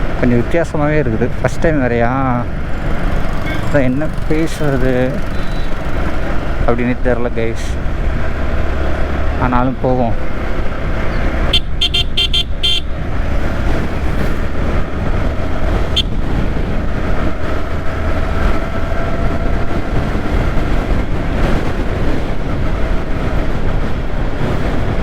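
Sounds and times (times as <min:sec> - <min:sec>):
motorcycle engine and road noise: 0:00.0 - 0:25.0.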